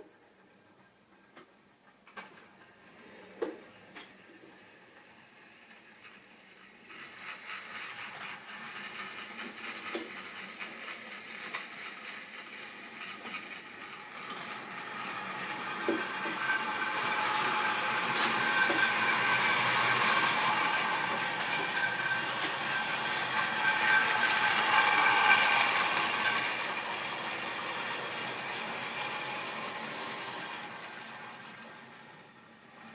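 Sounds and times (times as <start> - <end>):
model train motor whine: 2.3 - 32.9
wheels rattling on rails: 4.6 - 32.9.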